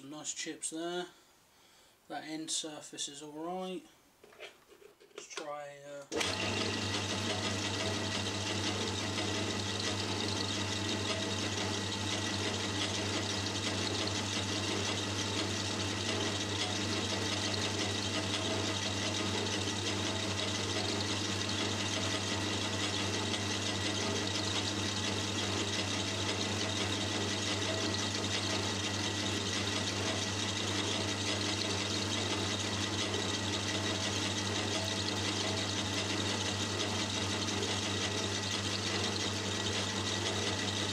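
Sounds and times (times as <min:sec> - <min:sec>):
lathe tool cutting metal bar: 0:06.1 - 0:40.9
metal lathe humming with high whine: 0:06.2 - 0:40.9.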